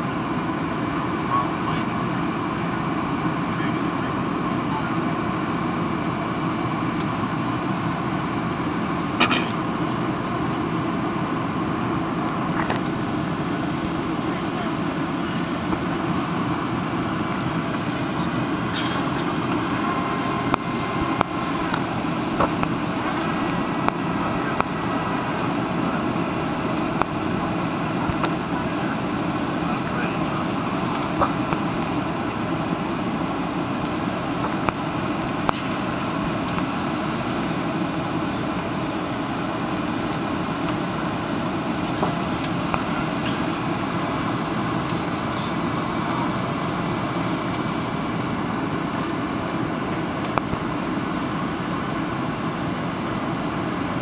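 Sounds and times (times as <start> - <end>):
airliner cabin roar: 0.0 - 54.0.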